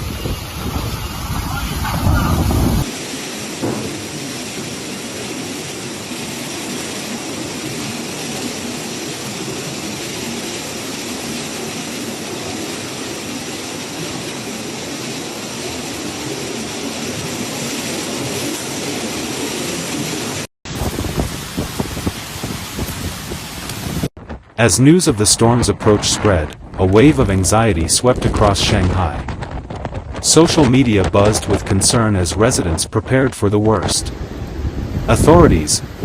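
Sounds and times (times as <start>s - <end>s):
heavy rain: 0.0s - 36.0s
roaring wind: 0.0s - 36.0s.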